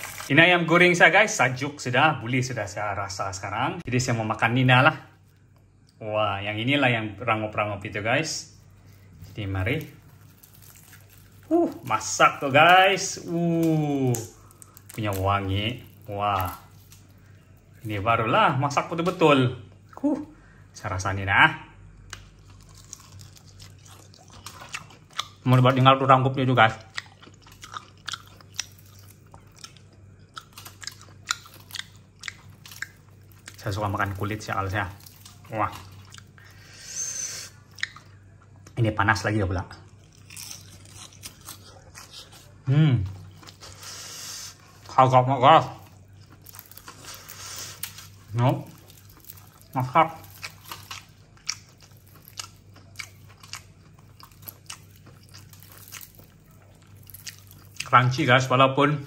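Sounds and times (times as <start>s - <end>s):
chewing crunchy fried chicken: 0.0s - 0.3s, 8.5s - 20.1s, 22.0s - 38.8s, 39.7s - 58.5s.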